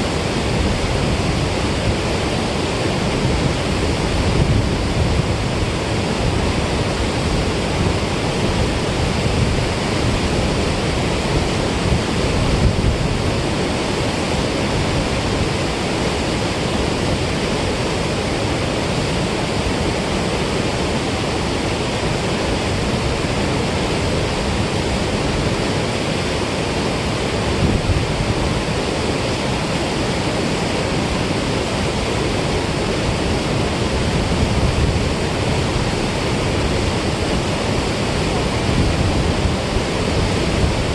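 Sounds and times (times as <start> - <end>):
water rushing from spillway: 0.0 - 40.9.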